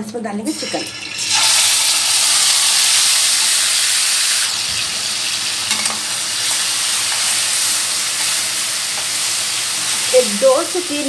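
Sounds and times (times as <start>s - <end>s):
chicken sizzling in hot oil: 0.5s - 11.0s.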